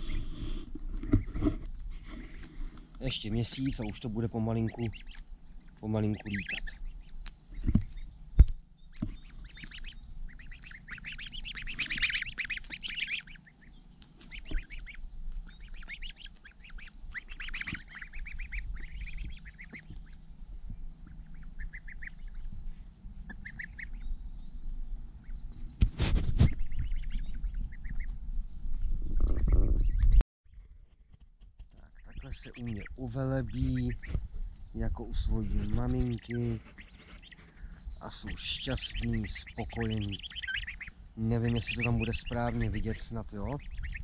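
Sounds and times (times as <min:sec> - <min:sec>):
goslings peeping: 0:00.0 - 0:30.2, 0:31.7 - 0:44.0
noisy rustle: 0:00.0 - 0:44.0.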